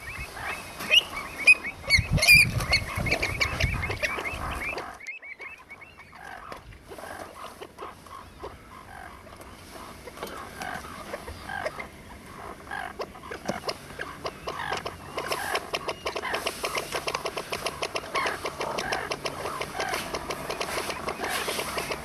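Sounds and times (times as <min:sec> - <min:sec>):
avocets yelping calls: 0:00.0 - 0:22.0.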